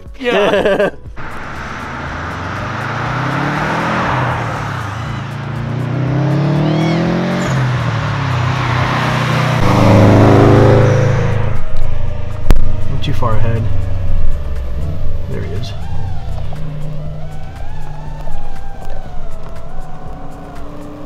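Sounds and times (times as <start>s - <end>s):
car engine accelerating: 1.1s - 21.0s.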